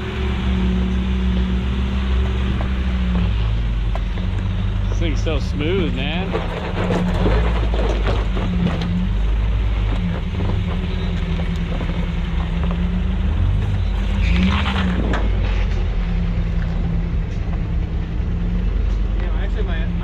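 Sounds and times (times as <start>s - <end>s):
truck engine at low revs: 0.0s - 20.0s.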